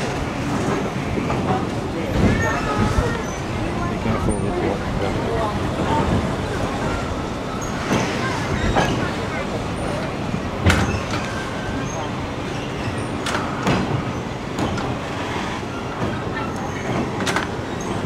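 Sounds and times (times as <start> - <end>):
train rumbling: 0.0 - 18.0
wheels clacking over rail joints: 0.0 - 18.0.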